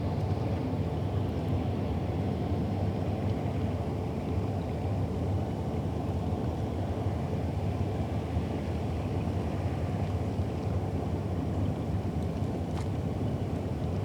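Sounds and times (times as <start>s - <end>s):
boat engine rumble: 0.1s - 14.0s.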